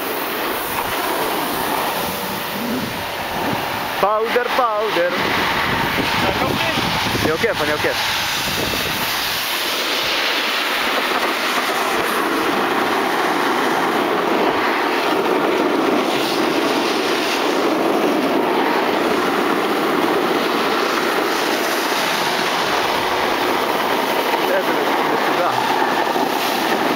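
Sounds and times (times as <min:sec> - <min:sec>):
snowboard scraping over snow: 0:00.0 - 0:26.9.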